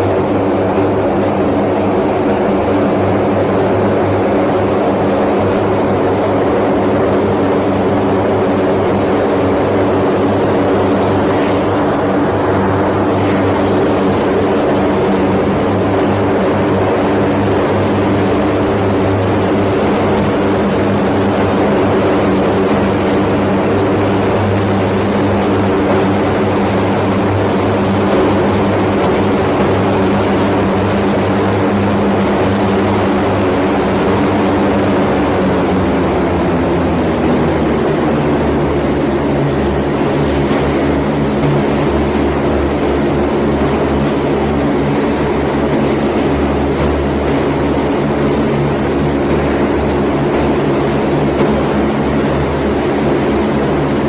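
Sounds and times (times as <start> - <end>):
high engine whine: 0.0 - 54.0
turboprop propeller drone: 0.0 - 54.0.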